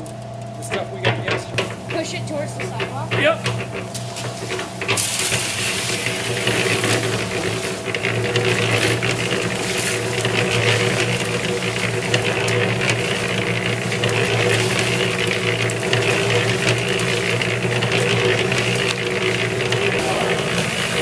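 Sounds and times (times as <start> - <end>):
concrete mixer motor humming: 0.0 - 21.0
mixer gear drive rattling: 0.0 - 21.0.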